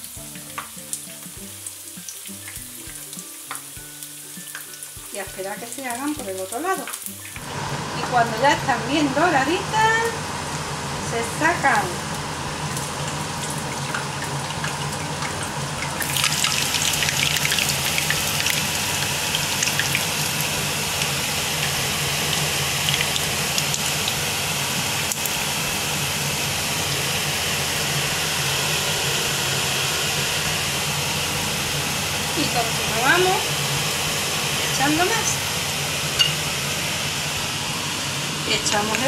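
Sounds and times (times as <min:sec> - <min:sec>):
fritters sizzling in hot oil: 0:00.0 - 0:08.6, 0:11.6 - 0:37.4
steady low hum: 0:07.4 - 0:39.0.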